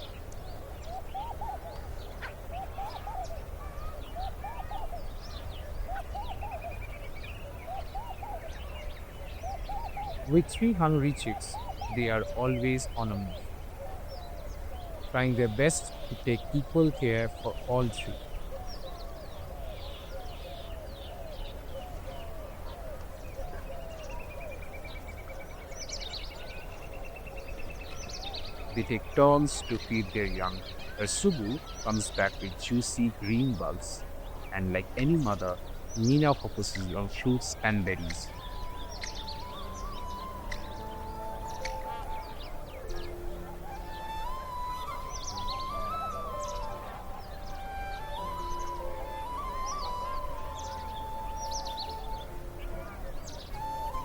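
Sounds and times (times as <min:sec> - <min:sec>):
low rounded bird calls: 0:00.0 - 0:54.0
high bird chirps: 0:00.8 - 0:22.2, 0:23.8 - 0:54.0.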